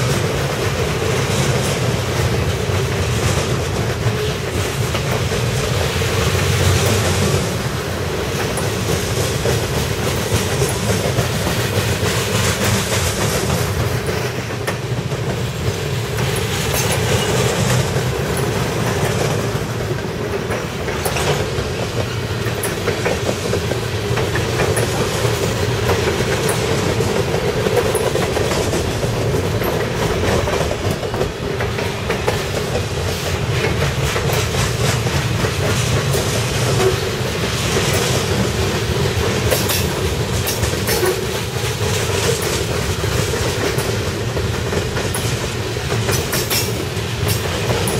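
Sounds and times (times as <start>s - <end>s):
steel wheels rolling on rail: 0.0s - 47.9s
wheels clicking over rail joints: 0.0s - 47.9s.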